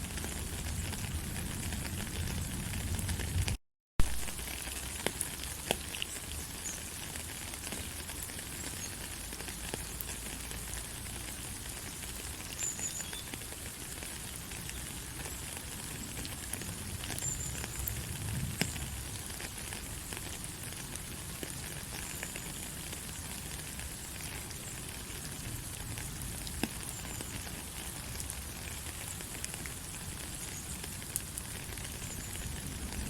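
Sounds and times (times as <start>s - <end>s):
light rain falling: 0.0s - 33.0s
raindrops ticking: 0.0s - 33.0s.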